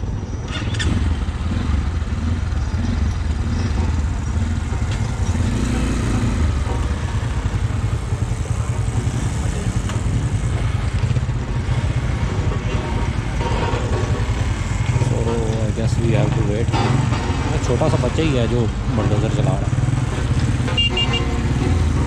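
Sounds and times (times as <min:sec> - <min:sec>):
motorcycle engine idling: 0:00.5 - 0:22.0.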